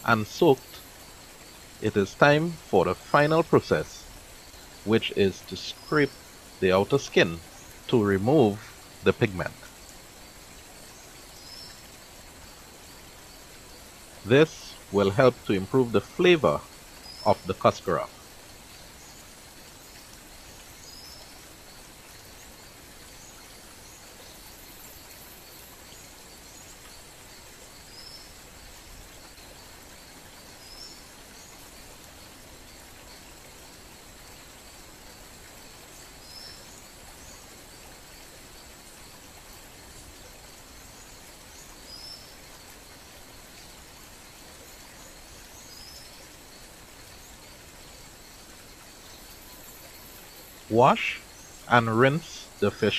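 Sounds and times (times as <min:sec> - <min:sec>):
outdoor background noise: 0:00.0 - 0:52.9.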